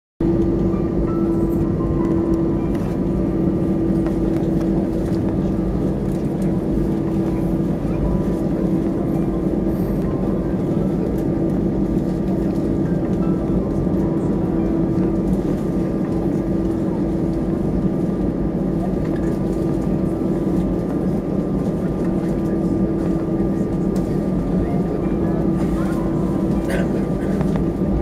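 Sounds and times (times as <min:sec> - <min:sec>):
airplane cabin engine hum: 0:00.2 - 0:28.0.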